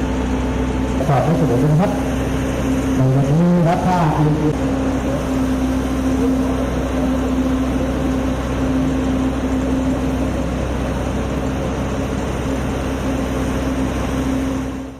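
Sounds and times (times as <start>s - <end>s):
mechanical drone with low hum: 0.0s - 14.9s.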